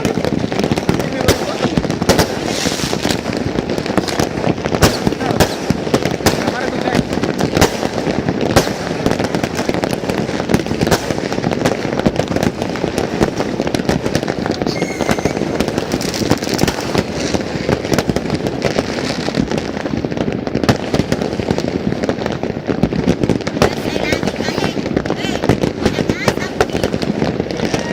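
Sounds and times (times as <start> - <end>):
fireworks crackling and banging: 0.0 - 27.9.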